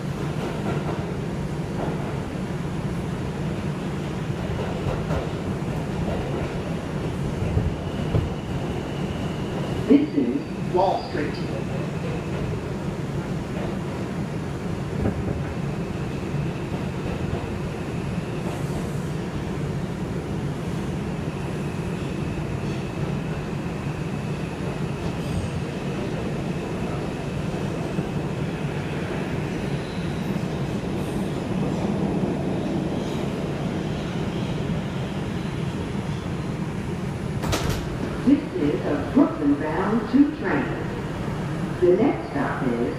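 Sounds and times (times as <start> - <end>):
steel wheels rumbling on rail: 0.0 - 42.9.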